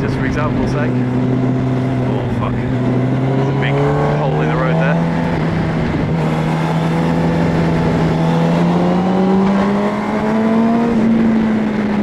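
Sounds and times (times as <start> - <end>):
motorcycle engine accelerating: 0.0 - 12.0
rushing wind: 0.0 - 12.0.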